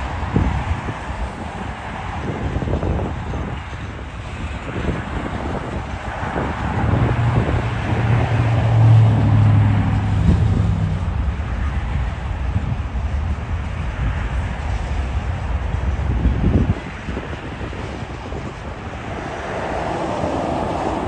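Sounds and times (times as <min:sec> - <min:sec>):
freight train rumbling past: 0:00.0 - 0:21.0
road vehicle passing: 0:00.0 - 0:21.0.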